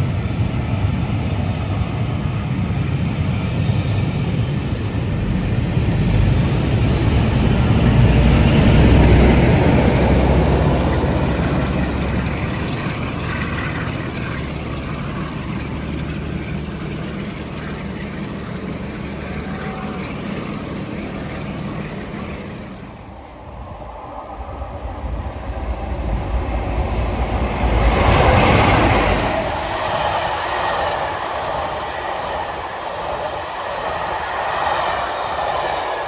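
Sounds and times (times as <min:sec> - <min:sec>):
train approaching: 0:00.0 - 0:36.0
train passing at speed: 0:00.0 - 0:36.0.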